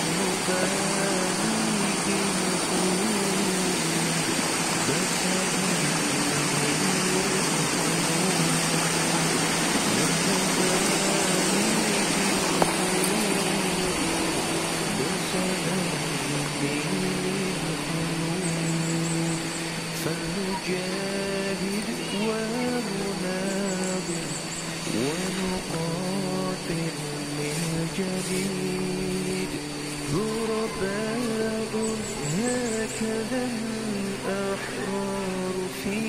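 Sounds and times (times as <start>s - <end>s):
song with sung melody: 0.0s - 36.0s
steady hiss: 0.0s - 36.0s.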